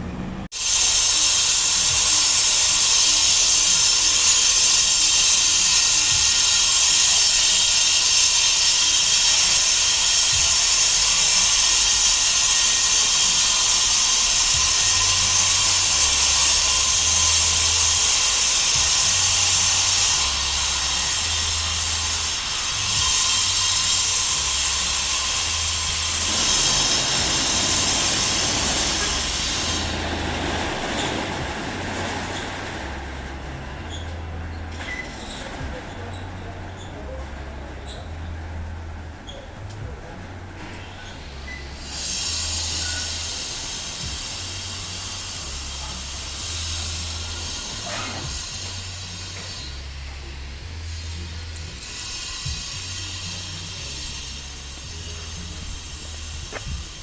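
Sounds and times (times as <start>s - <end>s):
loud high-pitched hiss: 0.5s - 34.1s, 40.7s - 57.0s.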